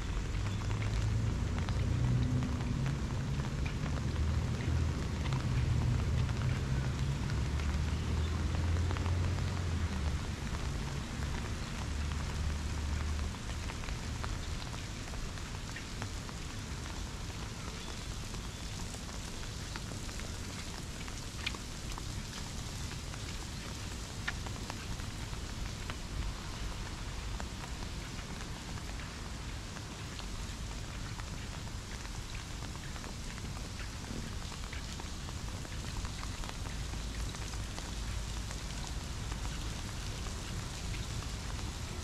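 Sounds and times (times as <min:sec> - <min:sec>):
steady rain falling: 0:00.0 - 0:42.0
sharp close drips: 0:00.1 - 0:42.0.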